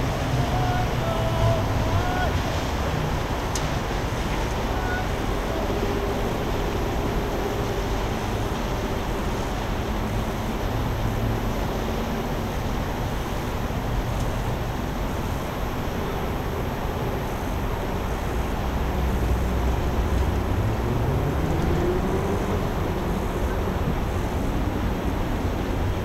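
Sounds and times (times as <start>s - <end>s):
city rumble and hiss: 0.0s - 26.0s
faint boat engine drone: 0.0s - 26.0s.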